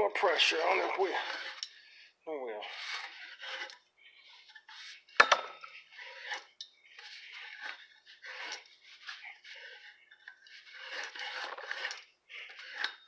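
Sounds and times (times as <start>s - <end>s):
pipe cutter scraping copper pipe: 0.0s - 13.0s.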